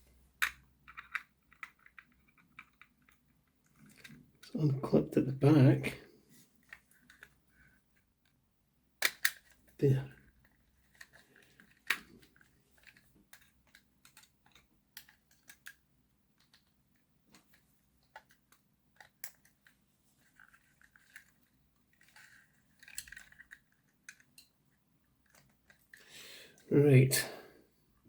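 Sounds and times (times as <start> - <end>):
plastic parts clicking and scraping: 0.4 - 4.6, 6.3 - 8.4, 9.0 - 26.7.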